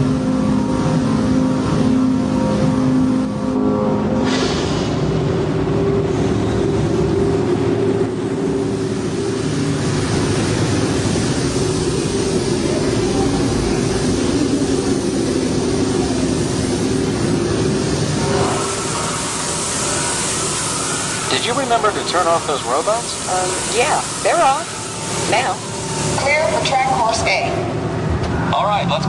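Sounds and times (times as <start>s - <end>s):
ride vehicle rushing hum: 0.0s - 29.0s.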